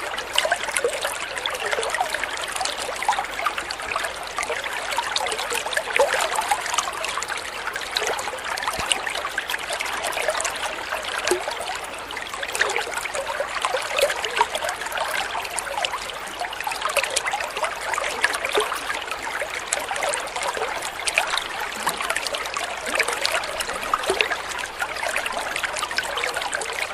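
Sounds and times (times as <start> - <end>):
stream trickling over stones: 0.0 - 26.9.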